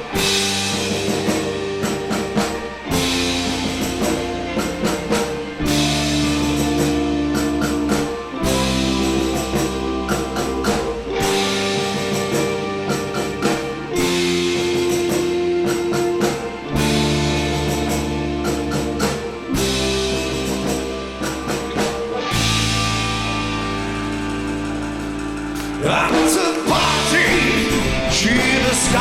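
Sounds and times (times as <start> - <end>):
rock band playing instrumental: 0.0 - 29.0.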